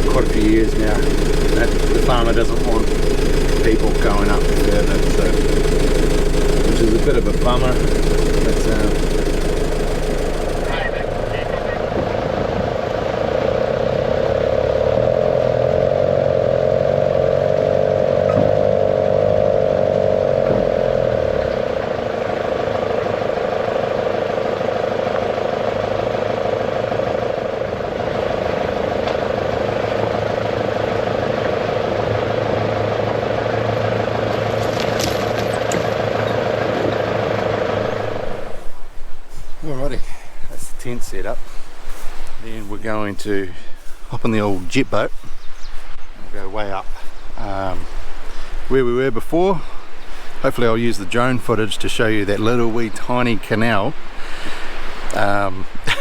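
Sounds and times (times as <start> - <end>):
vehicle engine running: 0.0 - 48.3
steady whine: 0.0 - 49.1.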